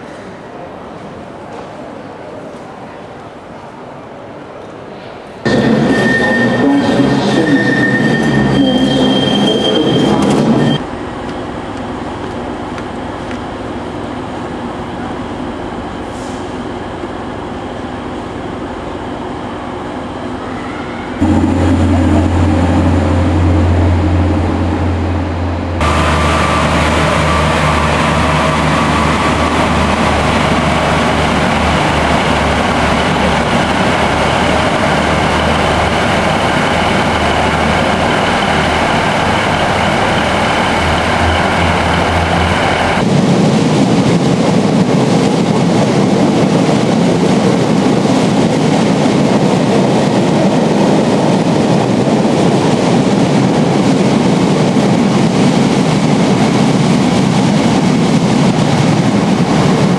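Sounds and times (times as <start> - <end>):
freight train rumbling past: 0.0 - 59.9
diesel train engine whining: 5.4 - 59.9.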